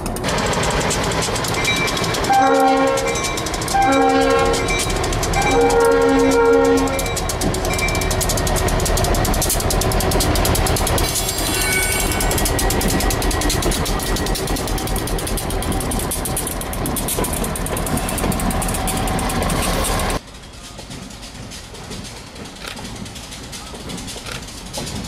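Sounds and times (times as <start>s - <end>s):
diesel locomotive engine rumble: 0.0s - 25.0s
steel wheels on rail: 0.0s - 25.0s.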